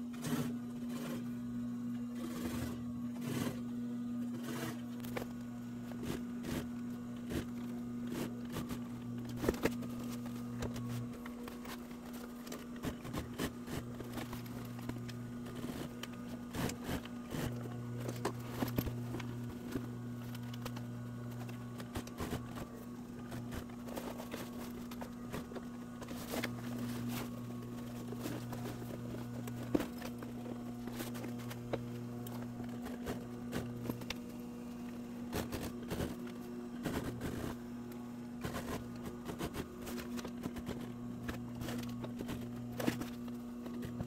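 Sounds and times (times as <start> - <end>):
sewing machine running: 0.1 - 1.4, 2.1 - 3.7, 4.3 - 37.7
vinyl and fabric rustling: 4.4 - 44.0.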